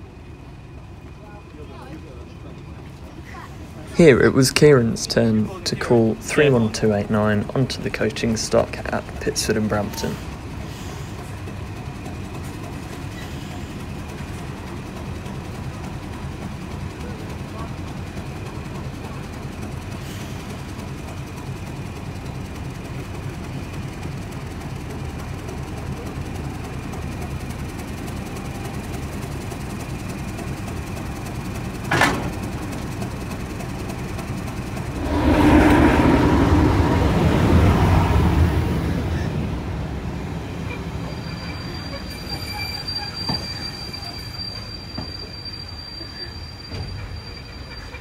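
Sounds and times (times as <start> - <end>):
diesel locomotive engine rumble: 0.0 - 48.0.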